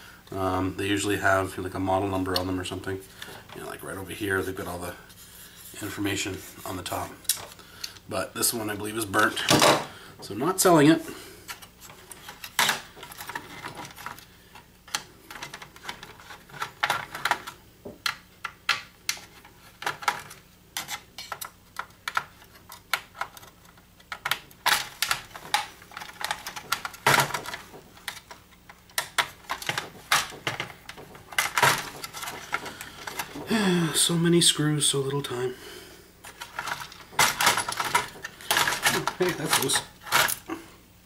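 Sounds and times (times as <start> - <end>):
parts clattering: 2.0 - 34.3, 36.2 - 40.6.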